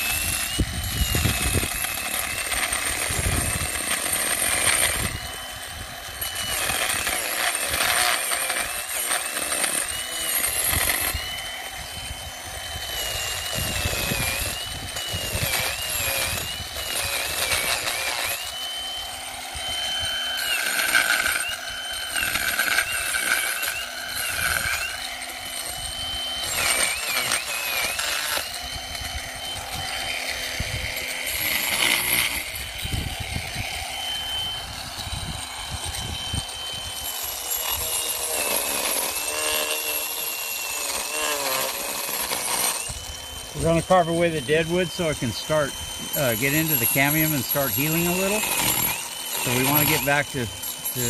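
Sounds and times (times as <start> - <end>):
rotary tool grinding wood: 0.0 - 51.0.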